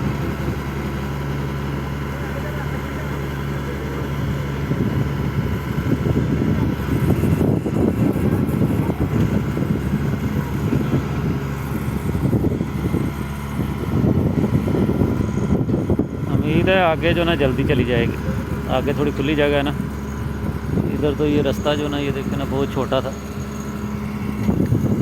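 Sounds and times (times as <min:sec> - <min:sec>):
skid-steer loader engine running: 0:00.0 - 0:25.0.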